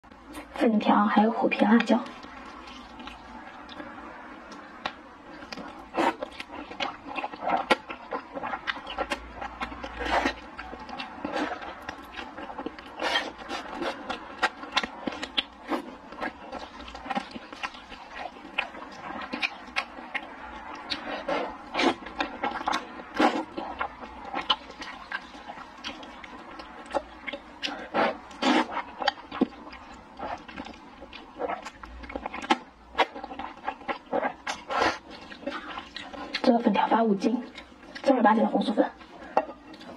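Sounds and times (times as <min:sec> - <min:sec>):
slurping and chewing noodles: 0:01.8 - 0:38.1.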